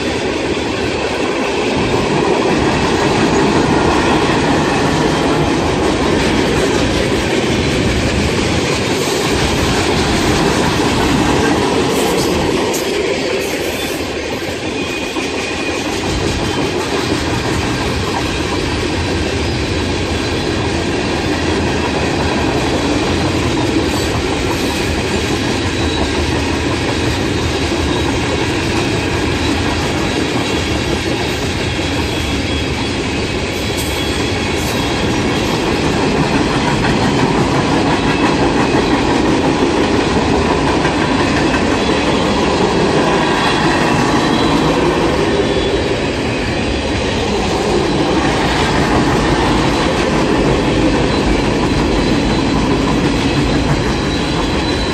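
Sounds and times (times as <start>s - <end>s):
train wheels clattering on rails: 0.0s - 54.9s.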